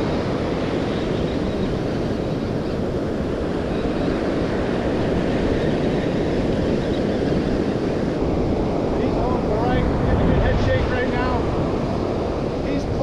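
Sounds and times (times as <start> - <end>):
breaking surf: 0.0 - 13.0
wind buffeting microphone: 0.0 - 13.0.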